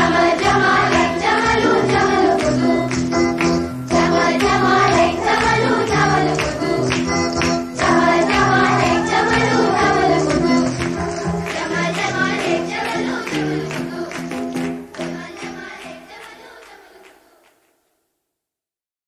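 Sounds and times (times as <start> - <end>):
background music with singing: 0.0 - 17.7.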